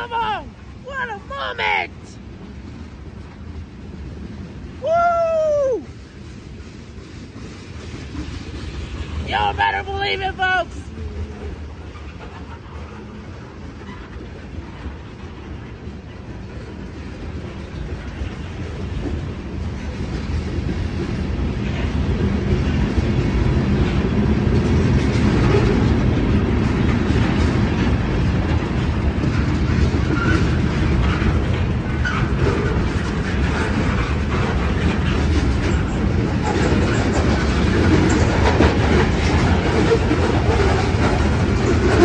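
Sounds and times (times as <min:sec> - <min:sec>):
freight train cars rolling: 0:00.0 - 0:42.0
wheels clacking over rail joints: 0:06.2 - 0:42.0.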